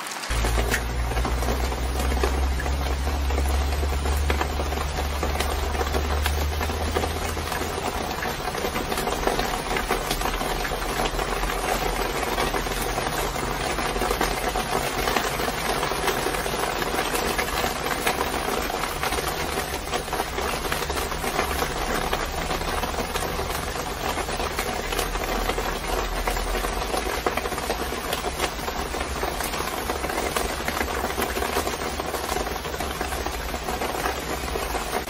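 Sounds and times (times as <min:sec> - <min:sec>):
rain pattering on a cover: 0:00.0 - 0:35.0.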